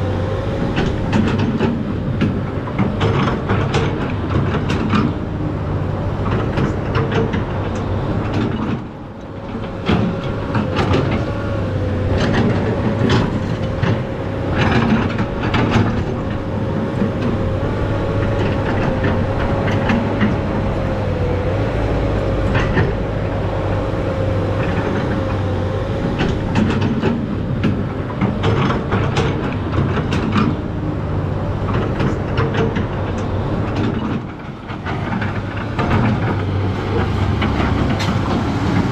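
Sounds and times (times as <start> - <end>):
excavator diesel engine running: 0.0 - 38.9
clanks and knocks: 0.6 - 5.3, 6.1 - 21.0, 22.2 - 23.9, 24.5 - 30.8, 31.6 - 38.9.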